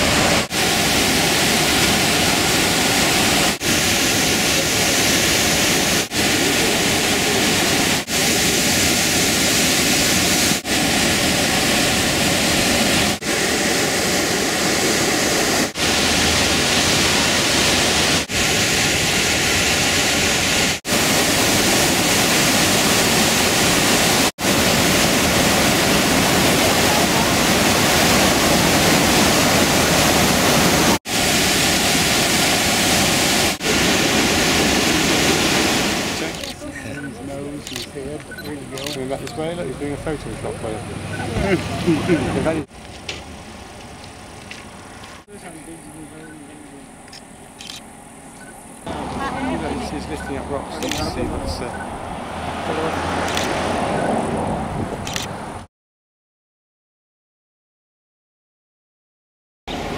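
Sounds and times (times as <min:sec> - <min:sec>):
waterfall rushing: 0:00.0 - 0:42.7, 0:48.9 - 0:54.5.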